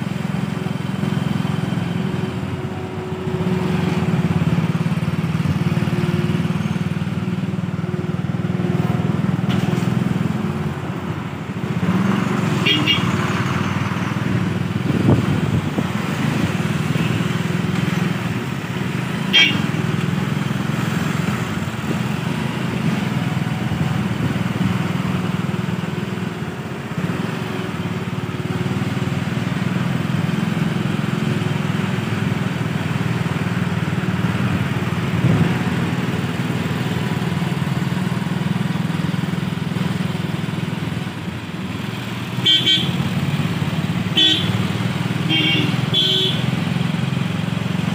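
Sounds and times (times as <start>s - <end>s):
vehicle engines and tyre noise: 0.0s - 47.9s.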